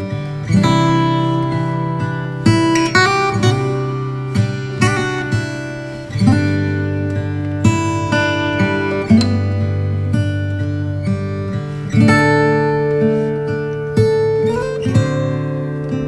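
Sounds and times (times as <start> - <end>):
acoustic guitar chords: 0.0 - 16.0.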